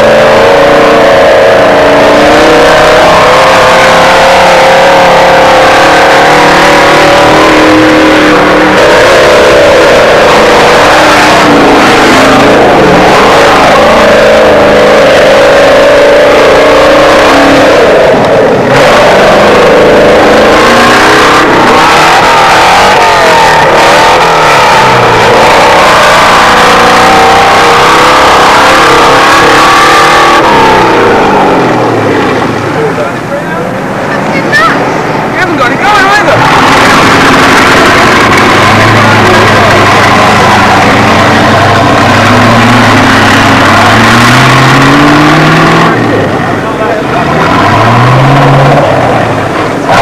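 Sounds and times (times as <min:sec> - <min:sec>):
engine revving loudly: 0:00.0 - 0:50.0.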